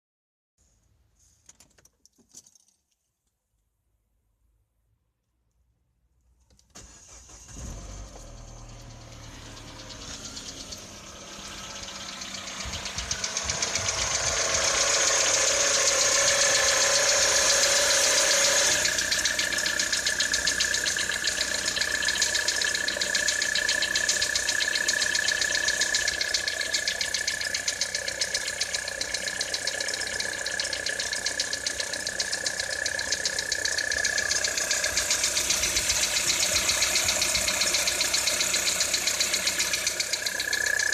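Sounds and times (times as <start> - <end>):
car engine running with knocking: 7.8 - 40.9.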